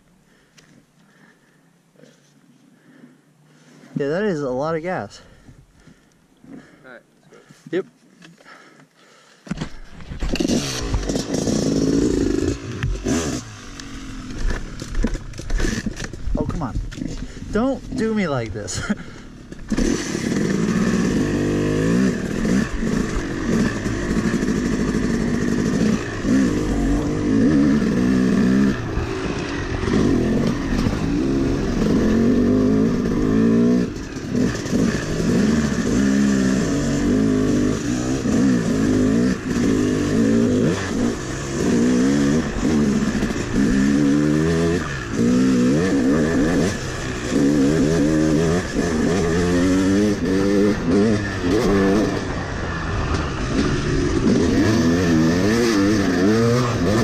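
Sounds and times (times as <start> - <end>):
dirt bike engine revving: 10.1 - 57.0.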